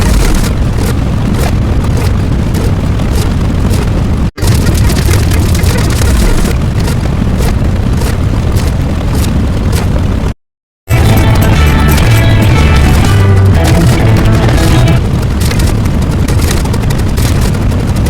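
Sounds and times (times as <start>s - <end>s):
loud distorted booming: 0.0s - 10.3s, 10.9s - 18.0s.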